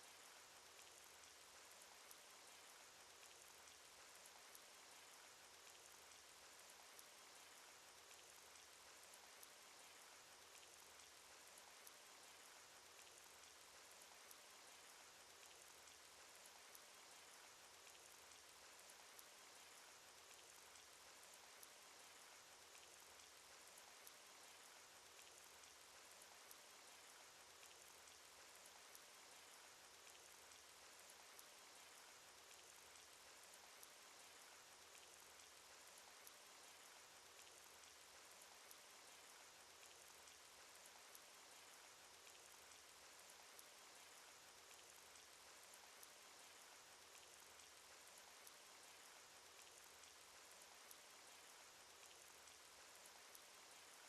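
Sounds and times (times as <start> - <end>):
rain hiss: 0.0 - 54.0.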